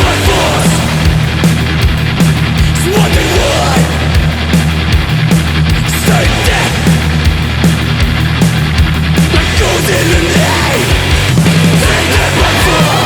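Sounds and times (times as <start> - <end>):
bass guitar: 0.0 - 13.0
distorted electric guitars: 0.0 - 13.0
driving drum beat: 0.0 - 13.0.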